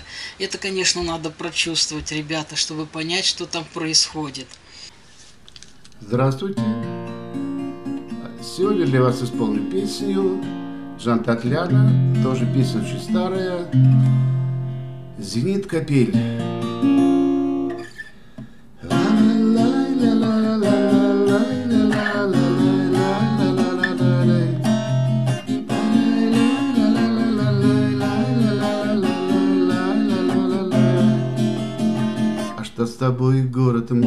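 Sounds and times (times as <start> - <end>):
acoustic guitar playing: 5.9 - 34.0.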